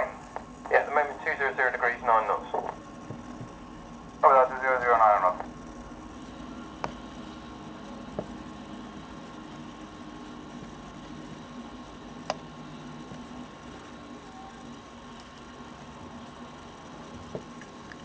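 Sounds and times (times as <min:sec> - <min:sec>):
radio channel hum and hiss: 0:00.0 - 0:18.0.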